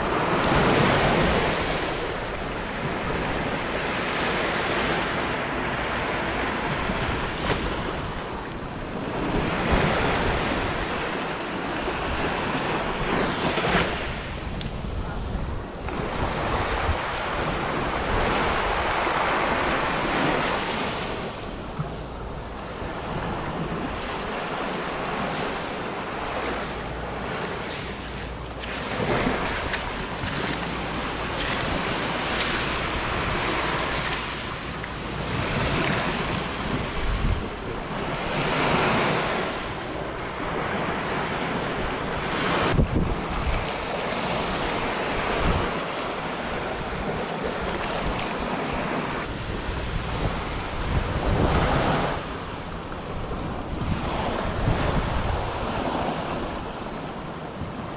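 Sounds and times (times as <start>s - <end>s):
sea waves washing on sand: 0.0s - 57.9s
wind rumbling on microphone: 0.0s - 57.9s.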